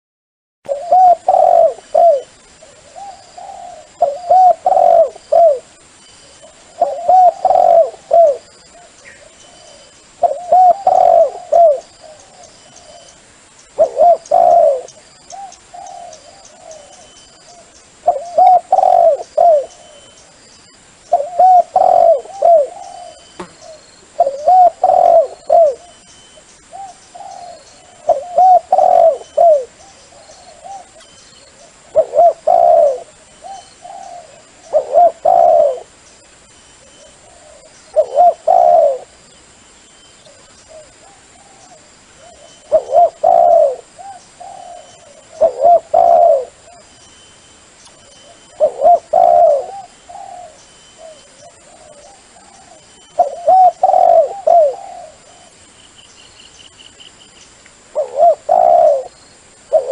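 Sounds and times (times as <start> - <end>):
dove cooing: 0.7 - 13.2, 13.8 - 20.2, 21.1 - 36.0, 36.8 - 39.2, 40.3 - 46.9, 48.0 - 55.6, 57.9 - 59.9.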